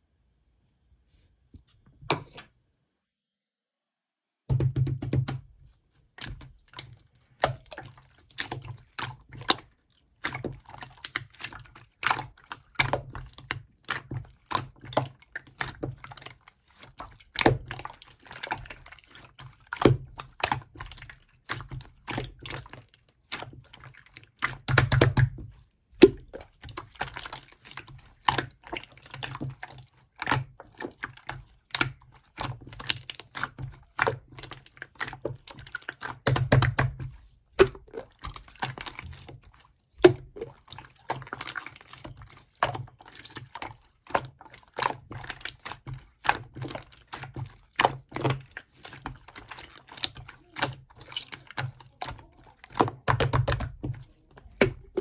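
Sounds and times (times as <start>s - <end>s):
slime squelching: 4.5s - 55.0s.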